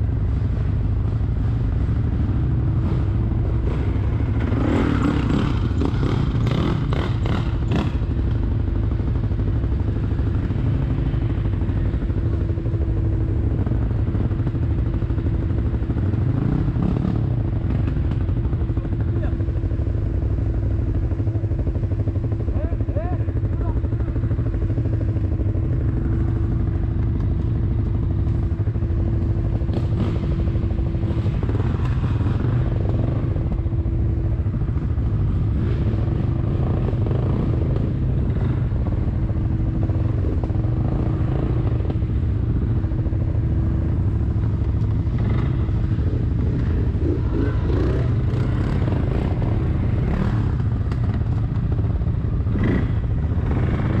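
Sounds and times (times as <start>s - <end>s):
engine whine: 0.0s - 54.0s
quad bike engine running: 0.0s - 54.0s
quad bike rattling over bumps: 0.0s - 54.0s.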